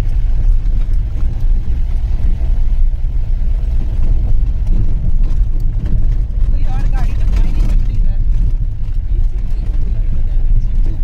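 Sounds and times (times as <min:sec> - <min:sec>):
vehicle rumble on rough road: 0:00.0 - 0:11.0.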